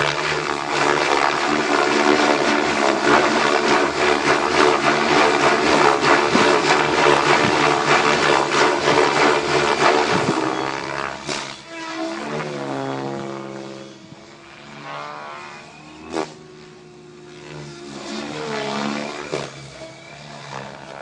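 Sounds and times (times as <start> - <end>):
model helicopter motor and rotor: 0.0 - 21.0.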